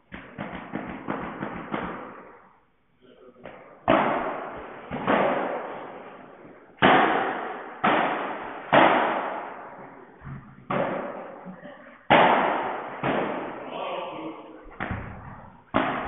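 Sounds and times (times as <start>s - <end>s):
padel ball hits echoing: 0.1s - 2.4s, 3.4s - 11.5s, 12.1s - 13.7s, 14.7s - 16.0s.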